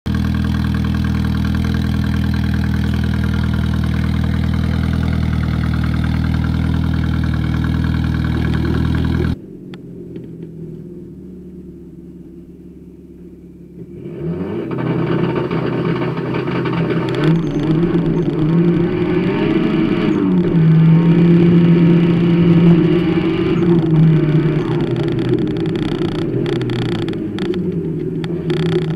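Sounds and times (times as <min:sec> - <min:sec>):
car engine idling: 0:00.1 - 0:28.9
car engine revving: 0:00.1 - 0:28.9.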